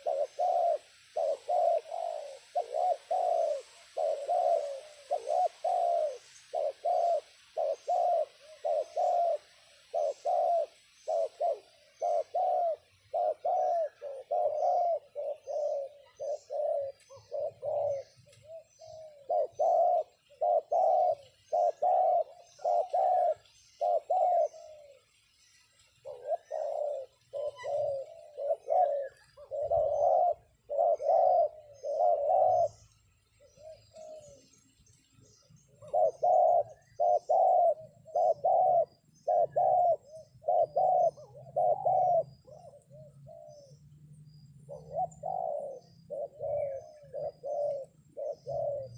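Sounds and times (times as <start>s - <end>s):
doves cooing: 0.0s - 48.9s
small birds chirping: 0.0s - 48.9s.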